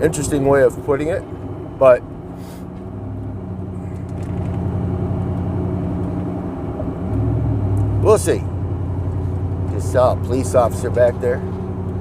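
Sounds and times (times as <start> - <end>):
truck engine hum: 0.0 - 12.0.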